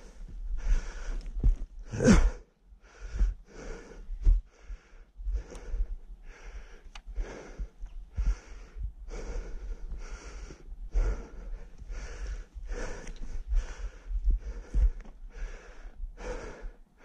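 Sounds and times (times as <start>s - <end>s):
low thumps of footsteps: 0.0s - 16.8s
man breathing heavily: 0.0s - 17.0s.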